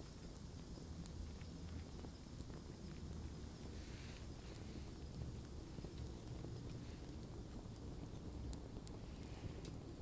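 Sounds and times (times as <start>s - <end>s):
flames rushing: 0.0s - 10.0s
wood crackling and popping: 0.0s - 10.0s.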